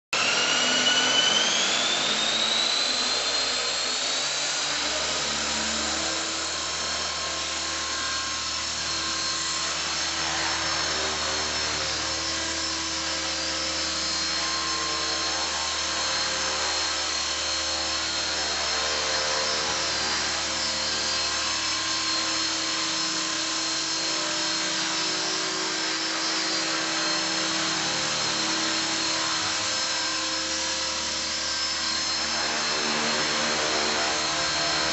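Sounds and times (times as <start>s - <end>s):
model helicopter rotor whine: 0.2s - 34.9s.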